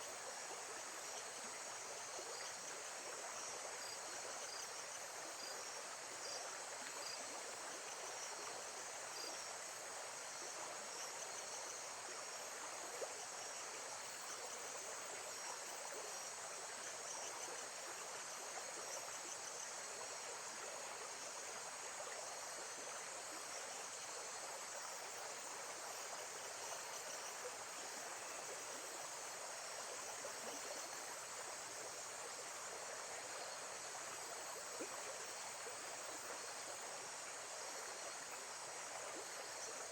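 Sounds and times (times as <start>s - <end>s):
insects chirping faintly: 0.0s - 39.9s.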